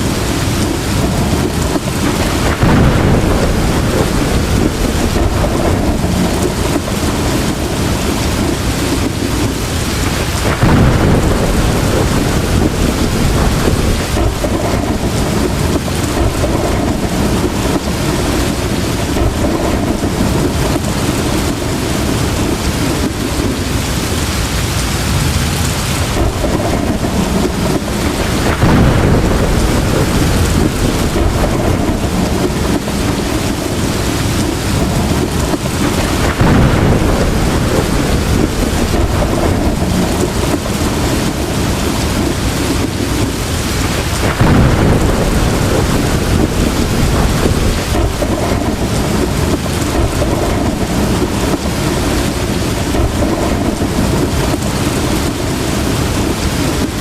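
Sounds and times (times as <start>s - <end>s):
heavy rain pouring: 0.0s - 57.0s
thunder rolling: 0.0s - 57.0s.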